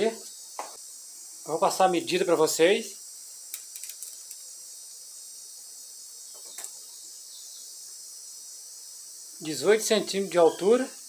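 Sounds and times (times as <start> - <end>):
high-pitched background hiss: 0.0 - 11.0.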